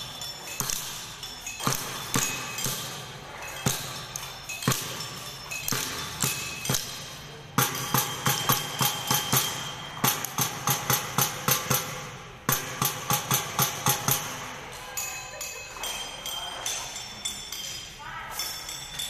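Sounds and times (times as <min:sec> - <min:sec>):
sticks clacking in unison: 0:00.0 - 0:19.0.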